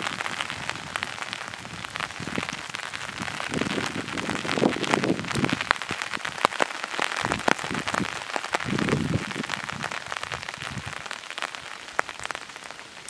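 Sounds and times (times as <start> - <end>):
rain hiss: 0.0 - 13.0
raindrops ticking: 0.0 - 13.0.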